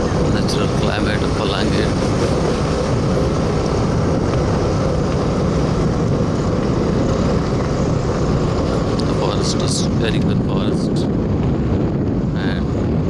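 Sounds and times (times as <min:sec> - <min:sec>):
moving vehicle rumble: 0:00.0 - 0:13.0
road and wind noise: 0:00.0 - 0:13.0.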